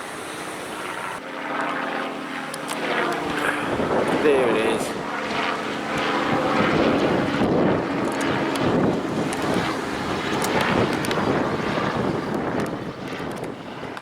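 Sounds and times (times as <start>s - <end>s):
drone propellers buzzing: 0.0s - 14.0s
wind buffeting microphone: 2.7s - 14.0s.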